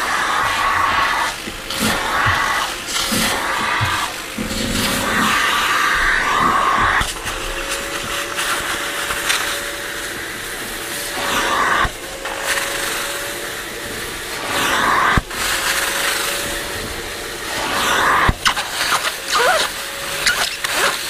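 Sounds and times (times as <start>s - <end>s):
spray extractor whine and suction: 0.0s - 21.0s.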